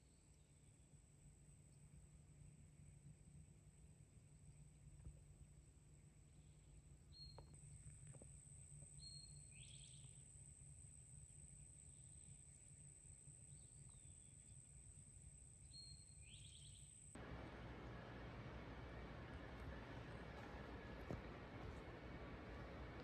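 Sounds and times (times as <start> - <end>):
insect drone: 0.0 - 23.0.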